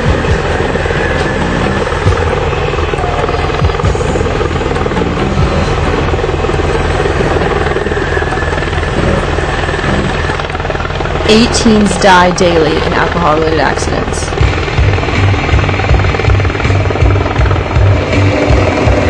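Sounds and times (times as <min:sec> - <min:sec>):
helicopter rotor beating: 0:00.0 - 0:19.0.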